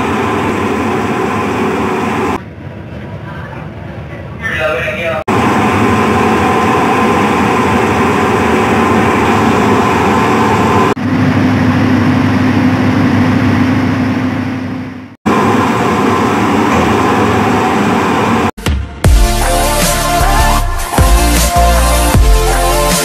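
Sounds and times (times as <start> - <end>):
ferry diesel engine drone: 0.0 - 18.6.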